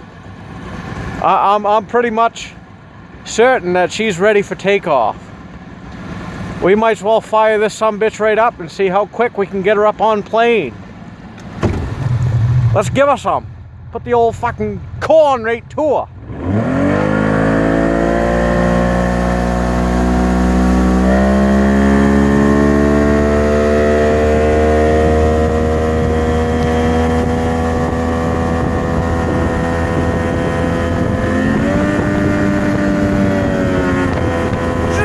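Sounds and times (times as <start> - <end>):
outboard motor at full throttle: 0.0 - 35.0.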